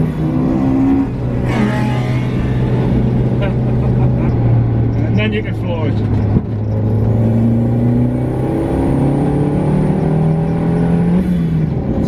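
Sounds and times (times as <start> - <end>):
car engine under full throttle: 0.0 - 12.0.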